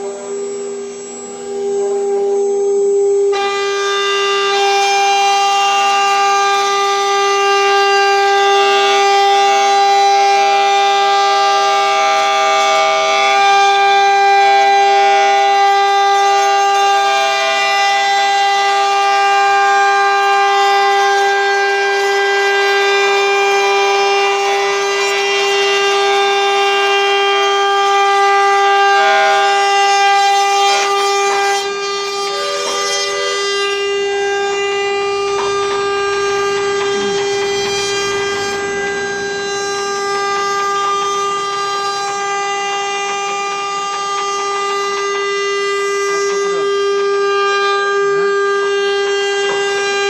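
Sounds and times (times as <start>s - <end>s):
shorter machine tones: 0.0s - 43.7s
router spindle whining: 0.0s - 50.0s.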